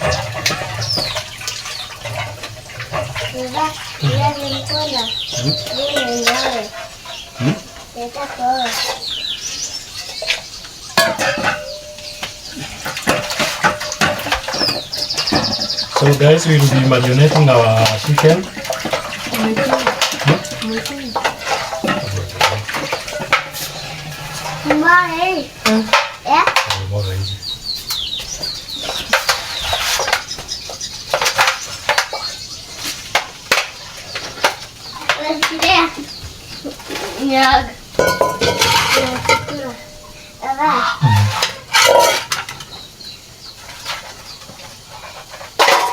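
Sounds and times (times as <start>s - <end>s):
dishes and utensils clinking: 0.0s - 42.8s, 43.6s - 45.9s.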